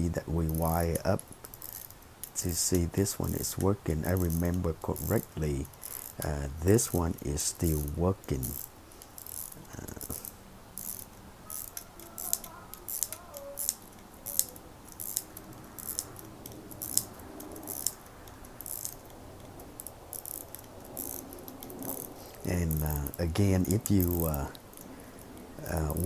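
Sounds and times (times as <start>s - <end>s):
pocket watch ratchet clicks: 0.0s - 26.0s.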